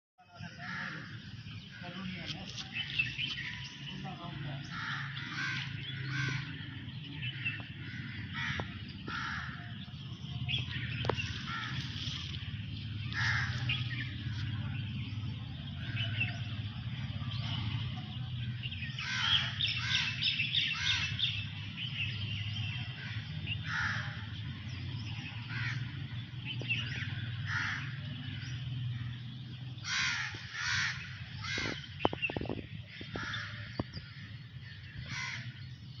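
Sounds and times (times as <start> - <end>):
birds calling: 0.2 - 36.0.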